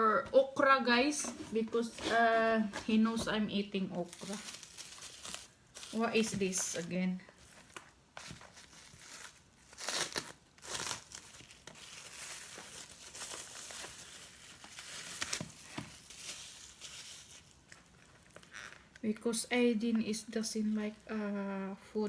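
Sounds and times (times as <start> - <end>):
food packaging rustling: 0.9 - 19.0.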